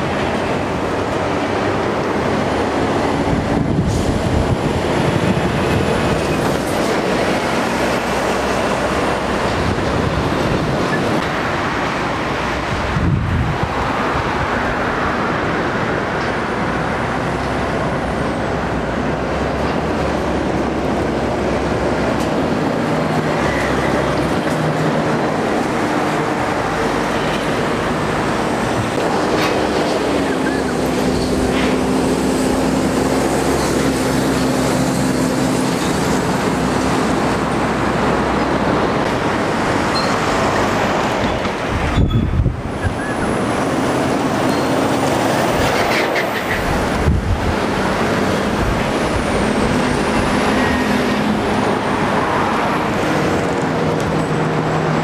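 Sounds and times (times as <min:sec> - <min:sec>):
heavy vehicles passing: 0:00.0 - 0:55.0
tyre and road noise: 0:00.0 - 0:55.0.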